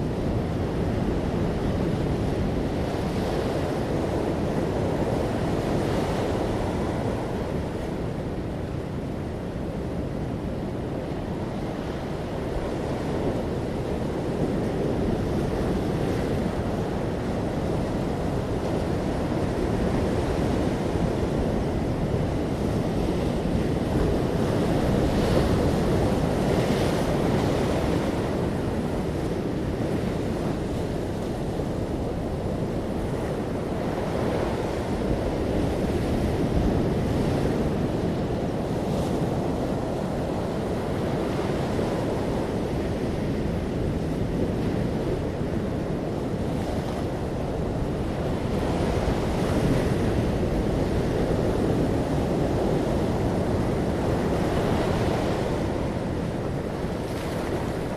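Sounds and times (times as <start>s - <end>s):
ocean waves breaking: 0.0s - 57.9s
wind: 0.0s - 57.9s.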